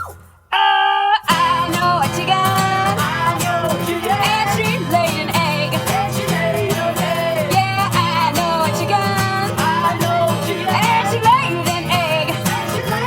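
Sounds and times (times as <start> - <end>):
person singing: 0.5 - 13.0
plucked guitar: 1.2 - 13.0.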